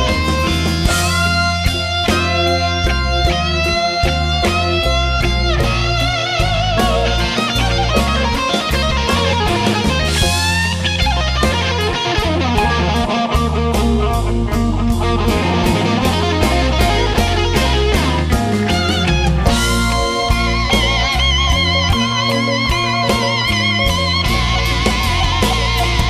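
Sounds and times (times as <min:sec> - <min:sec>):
bass and drums: 0:00.0 - 0:26.0
electric guitar solo: 0:00.0 - 0:26.0.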